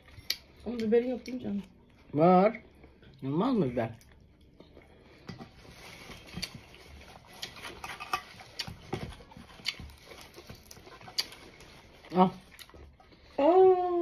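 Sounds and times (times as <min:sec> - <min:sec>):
person chewing fruit: 0:00.0 - 0:13.4.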